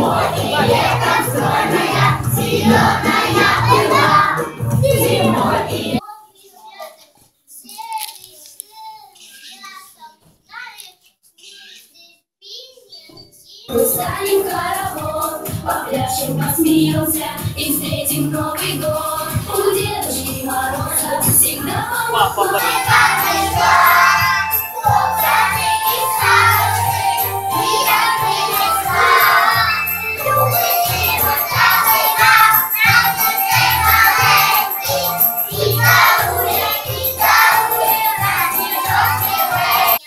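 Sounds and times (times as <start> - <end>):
children's song over loudspeakers: 0.0 - 6.2, 13.7 - 40.0.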